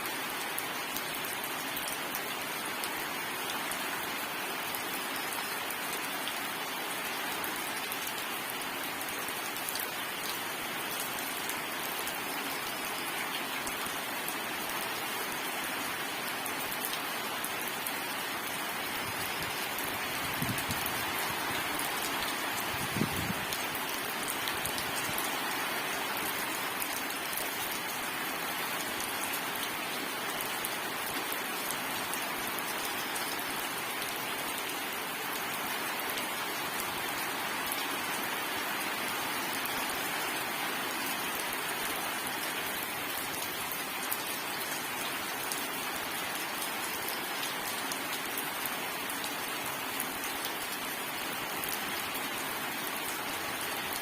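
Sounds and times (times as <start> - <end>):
rain hissing on a surface: 0.0 - 54.0.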